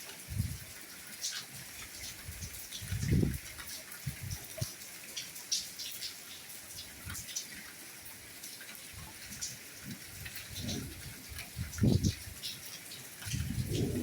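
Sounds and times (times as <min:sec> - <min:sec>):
soft rain patter: 0:00.0 - 0:14.0.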